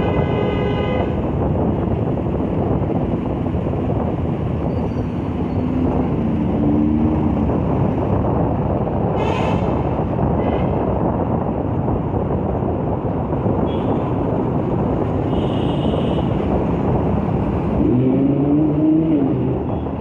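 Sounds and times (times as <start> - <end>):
wind noise: 0.0 - 20.0.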